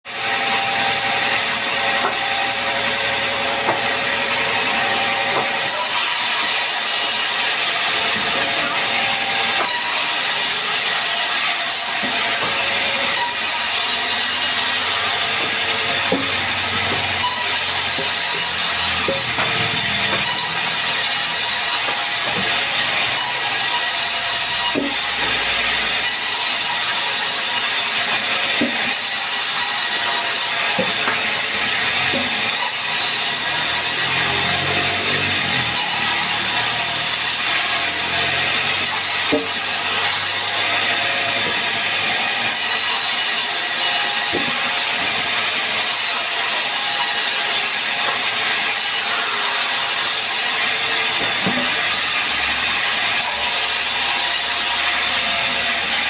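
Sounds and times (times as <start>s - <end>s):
bandsaw cutting wood: 0.1s - 56.0s.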